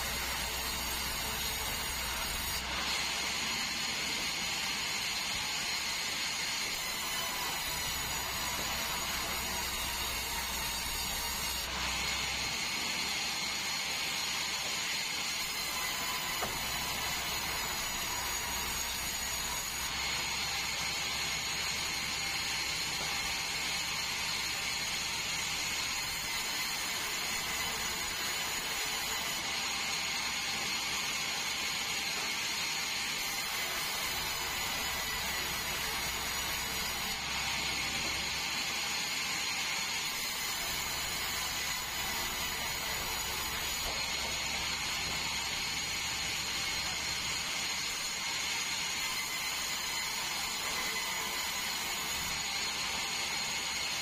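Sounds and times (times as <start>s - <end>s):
band sawmill cutting log: 0.0s - 54.0s.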